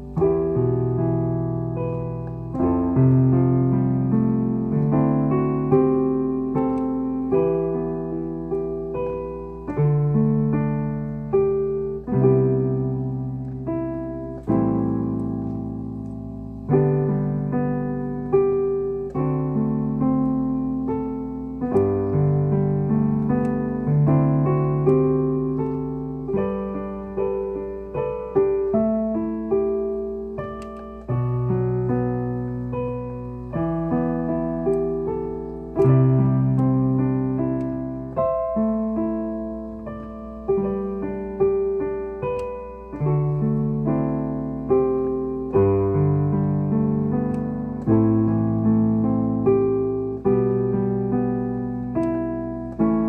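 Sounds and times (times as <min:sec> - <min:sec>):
piano chords: 0:00.0 - 0:53.0.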